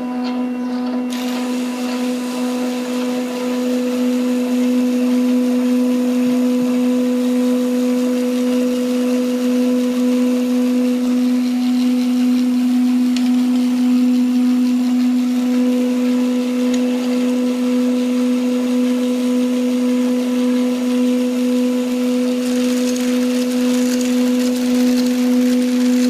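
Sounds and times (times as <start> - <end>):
small electric motor hum: 0.0 - 26.0.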